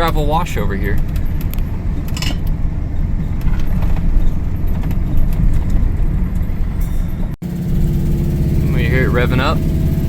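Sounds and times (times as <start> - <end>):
road noise: 0.0 - 10.0
truck engine running rough: 0.0 - 10.0.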